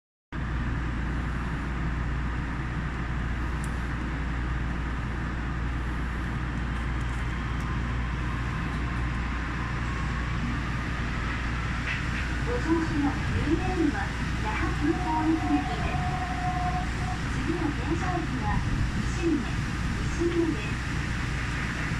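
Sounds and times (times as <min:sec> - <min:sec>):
low hum: 0:00.4 - 0:20.2
monorail car rumbling: 0:00.4 - 0:21.9.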